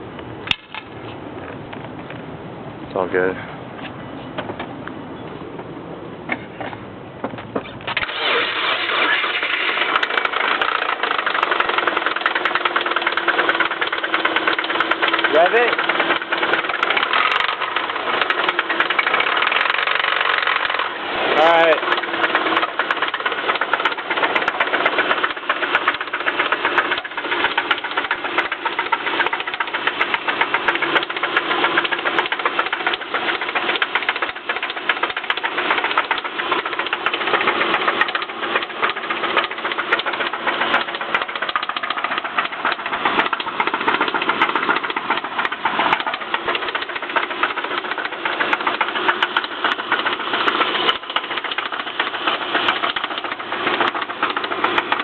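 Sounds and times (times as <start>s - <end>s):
car engine knocking and rattling: 0.0s - 2.2s, 4.2s - 4.9s, 5.5s - 55.0s.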